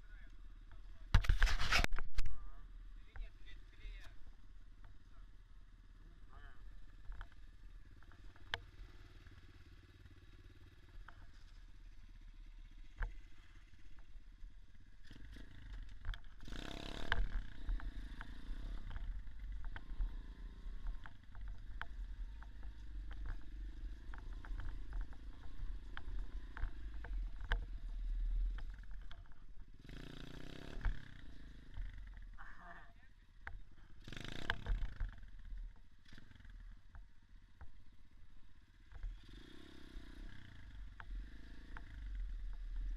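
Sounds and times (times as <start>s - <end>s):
dirt bike engine running: 2.6s - 42.9s.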